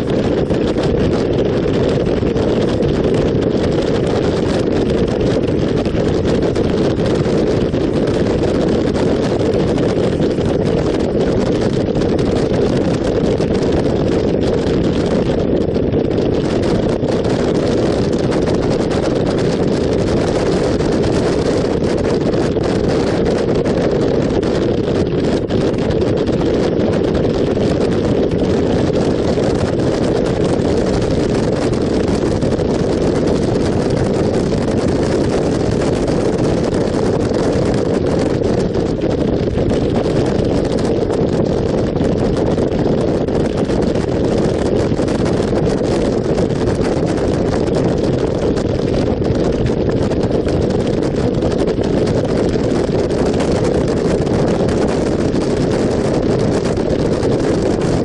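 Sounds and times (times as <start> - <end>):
motorcycle engine and tyre noise: 0.0 - 52.6
wind rushing on microphone: 0.0 - 58.0.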